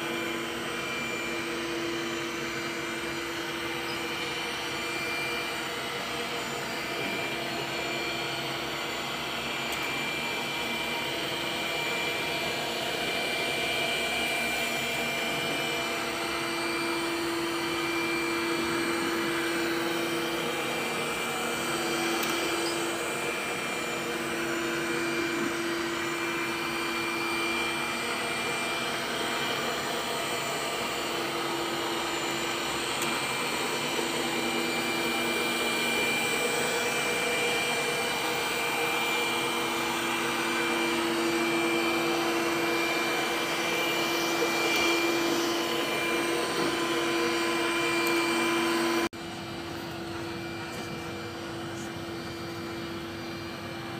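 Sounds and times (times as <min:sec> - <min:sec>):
robot suction fan whine: 0:00.0 - 0:53.9.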